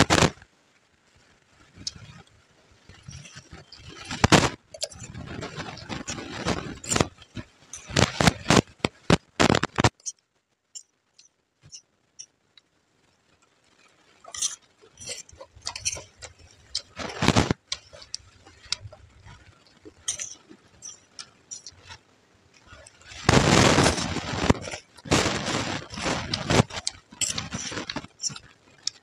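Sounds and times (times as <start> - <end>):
crunching puffed rice: 1.2 - 10.2, 13.6 - 29.0.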